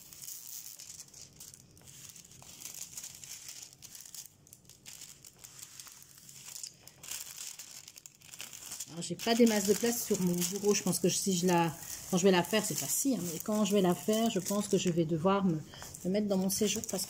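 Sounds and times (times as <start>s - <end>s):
plastic film crinkling: 0.0s - 17.0s.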